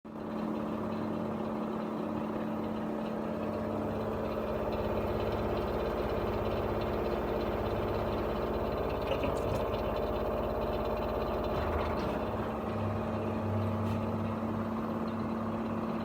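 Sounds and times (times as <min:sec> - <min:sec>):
washing machine humming: 0:00.1 - 0:16.0.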